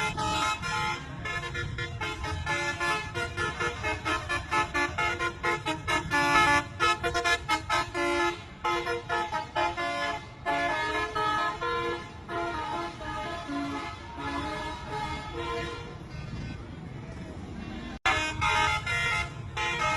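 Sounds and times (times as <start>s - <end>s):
multi-tone bus horn melody: 0.0s - 16.9s, 17.6s - 19.9s.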